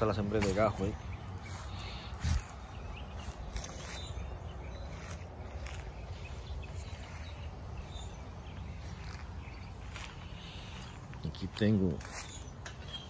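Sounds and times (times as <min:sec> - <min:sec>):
faint bird chirps: 0:00.8 - 0:13.0.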